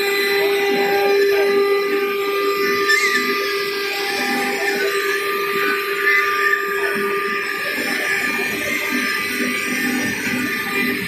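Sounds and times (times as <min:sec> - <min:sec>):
router spindles whining: 0:00.0 - 0:11.0.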